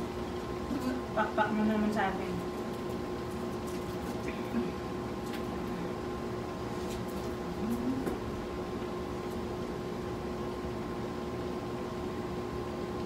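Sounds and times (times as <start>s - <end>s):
appliance hum with steady tones: 0.0s - 13.0s.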